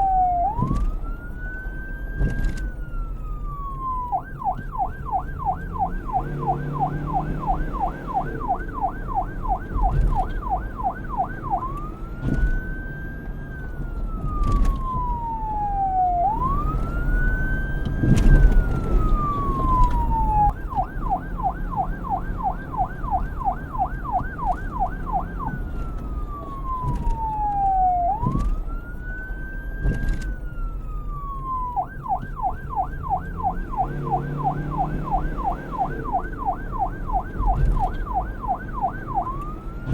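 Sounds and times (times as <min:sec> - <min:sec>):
police siren yelp and wail: 0:00.0 - 0:39.9.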